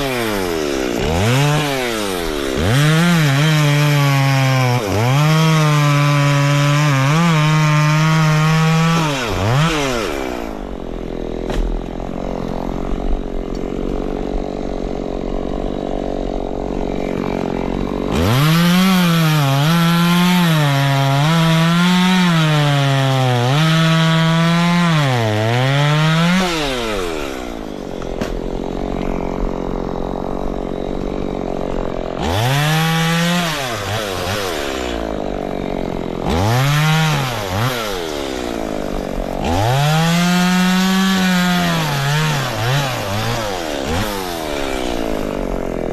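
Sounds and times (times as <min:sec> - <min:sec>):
chainsaw cutting wood: 0:00.0 - 0:45.9
chainsaw idling: 0:00.0 - 0:45.9.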